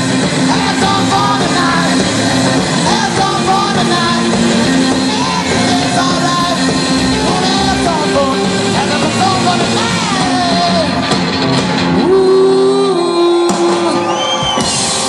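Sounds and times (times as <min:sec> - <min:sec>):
person singing: 0:00.0 - 0:11.2, 0:11.9 - 0:14.4
drums: 0:00.0 - 0:15.0
electric guitars: 0:00.0 - 0:15.0.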